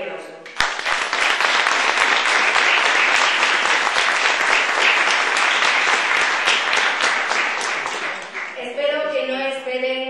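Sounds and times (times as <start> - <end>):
audience applauding: 0.5 - 8.6.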